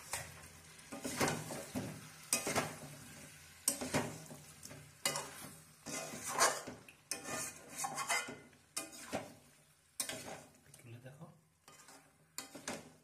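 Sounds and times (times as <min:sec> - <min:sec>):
spatula scraping metal wok: 0:00.0 - 0:10.6, 0:11.6 - 0:13.0
food sizzling in pan: 0:00.0 - 0:13.0.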